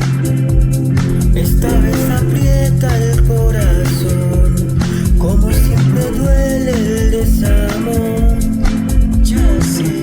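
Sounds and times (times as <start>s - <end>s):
song with beat and bass: 0.0s - 10.0s
person singing: 1.1s - 10.0s.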